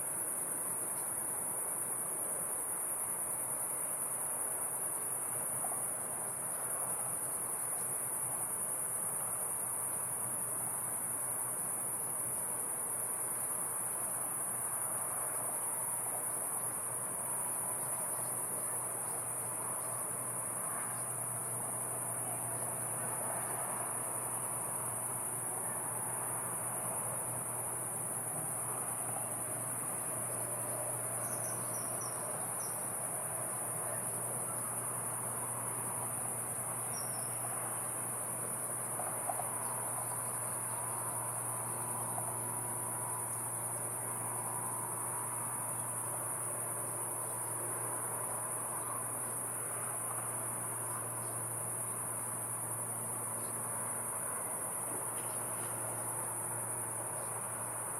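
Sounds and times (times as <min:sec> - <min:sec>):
crickets chirring: 0:00.0 - 0:57.9.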